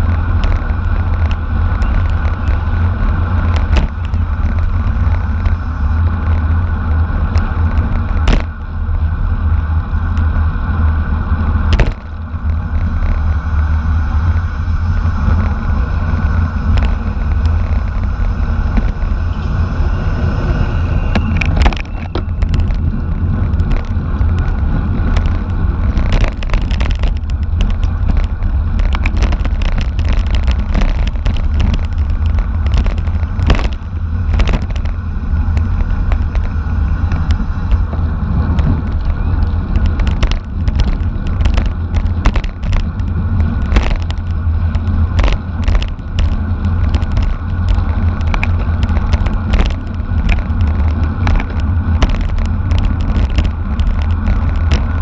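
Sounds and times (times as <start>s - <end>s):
bicycle road noise: 0.0s - 55.0s
sharp clicks and rattles: 0.0s - 55.0s
wind buffeting microphone: 0.0s - 55.0s.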